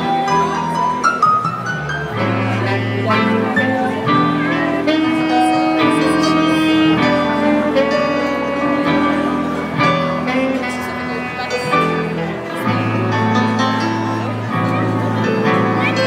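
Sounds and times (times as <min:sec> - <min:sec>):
electric guitar: 0:00.0 - 0:16.0
keyboard: 0:00.0 - 0:16.0
saxophone holding long notes: 0:00.0 - 0:16.0
upright double bass: 0:00.0 - 0:16.0.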